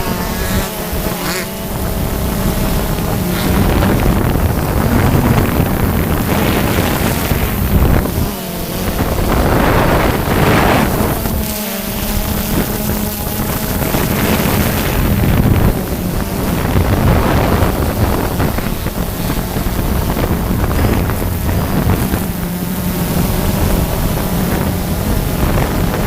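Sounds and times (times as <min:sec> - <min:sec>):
drone propellers buzzing: 0:00.0 - 0:26.0
wind buffeting microphone: 0:00.0 - 0:26.0.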